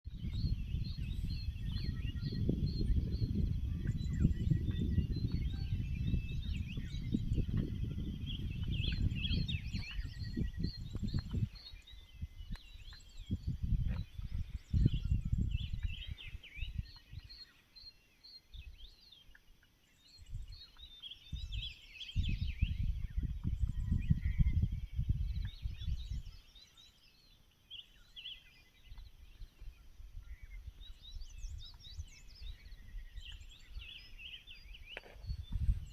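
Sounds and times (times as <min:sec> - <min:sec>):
small birds chirping and trilling: 0:00.1 - 0:35.9.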